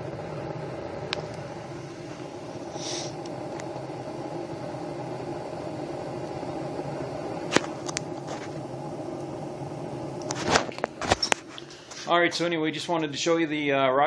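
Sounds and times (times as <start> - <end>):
heater burning with droning hum: 0.0 - 14.0.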